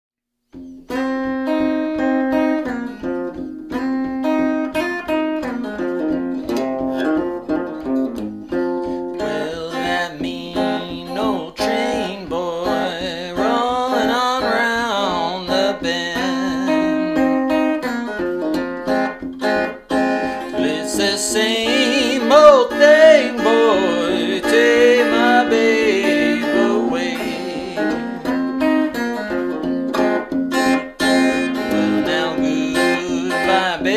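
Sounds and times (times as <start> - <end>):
acoustic blues guitar: 0.5 - 33.9.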